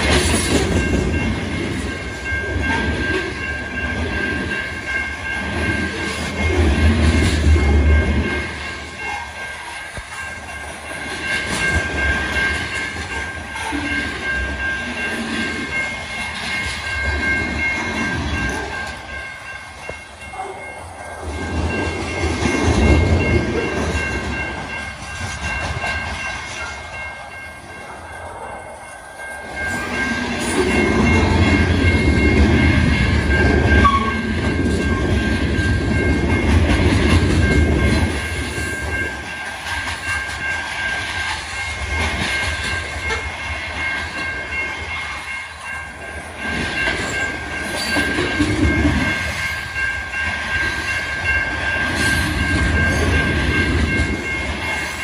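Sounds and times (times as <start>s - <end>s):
freight train rumbling past: 0.0s - 55.0s
high-pitched tones ringing: 0.6s - 55.0s.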